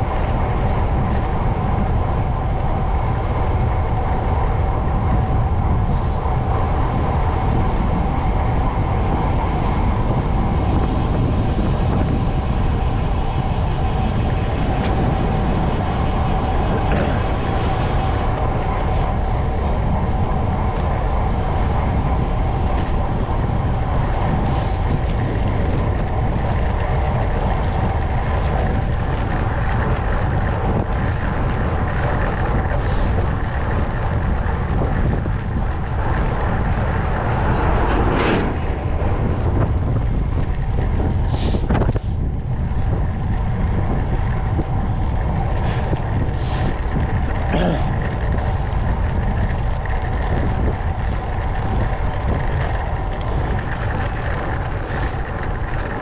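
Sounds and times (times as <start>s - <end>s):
bike tyres rolling on tarmac: 0.0s - 56.0s
wind rushing over microphone: 0.0s - 56.0s.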